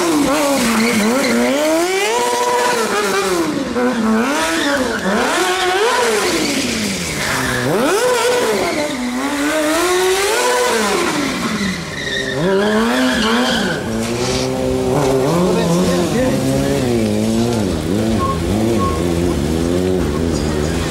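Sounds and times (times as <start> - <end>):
motorcycle engine revving: 0.0 - 20.9
tyre skidding: 0.0 - 20.9.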